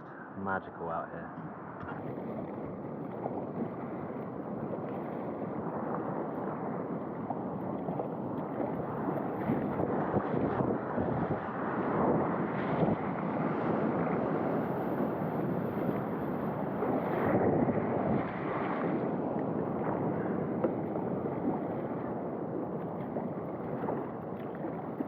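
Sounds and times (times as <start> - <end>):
wind buffeting microphone: 1.4 - 25.0
sea water rushing and splashing: 1.6 - 25.0.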